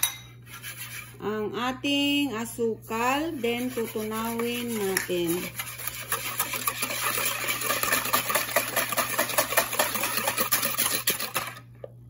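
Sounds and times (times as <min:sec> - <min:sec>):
whisk beating batter in plastic bowl: 0:00.4 - 0:01.2, 0:02.8 - 0:11.8.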